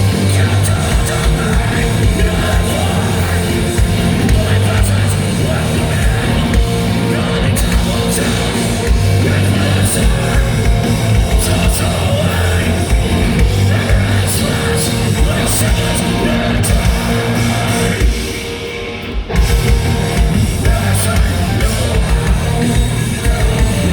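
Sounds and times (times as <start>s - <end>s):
bass guitar: 0.0s - 23.9s
distorted electric guitars: 0.0s - 23.9s
drum kit: 0.0s - 23.9s
vocals: 0.0s - 23.9s.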